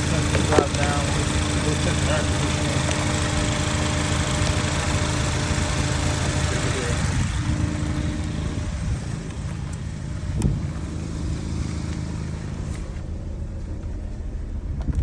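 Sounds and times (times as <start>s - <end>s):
air conditioning running: 0.0s - 15.0s
car engine idling: 0.0s - 15.0s.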